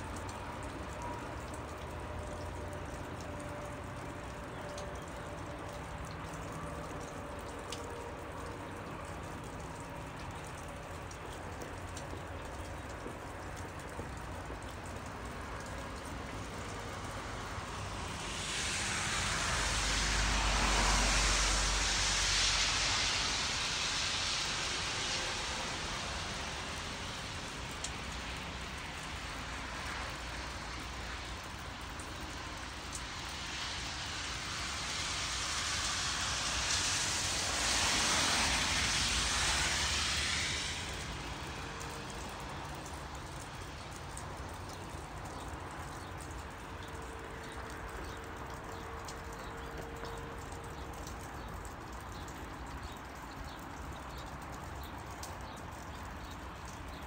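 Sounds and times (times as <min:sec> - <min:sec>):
steady rain: 0:00.0 - 0:57.0
vehicles passing on wet road: 0:00.0 - 0:57.0.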